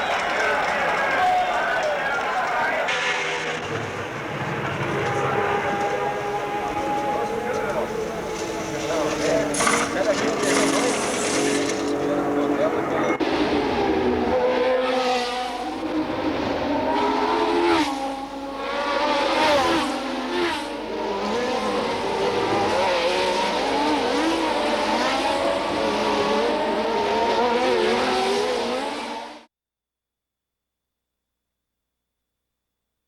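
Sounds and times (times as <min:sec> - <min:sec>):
racing car engines at high revs: 0:00.0 - 0:29.5.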